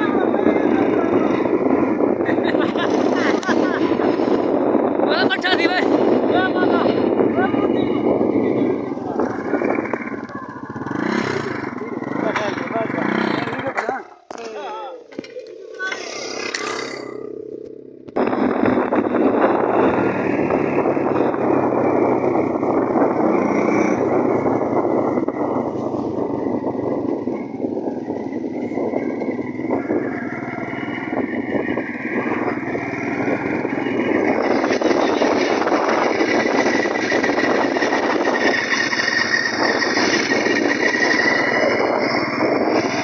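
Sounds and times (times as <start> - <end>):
small engine running: 5.6 - 13.9, 15.2 - 43.0.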